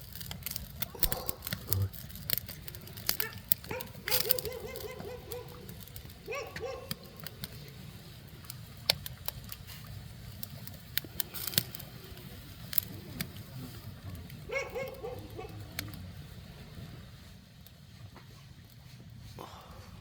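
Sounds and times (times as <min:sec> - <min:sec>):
fire low rumble: 0:00.0 - 0:20.0
firewood popping and snapping: 0:00.0 - 0:20.0.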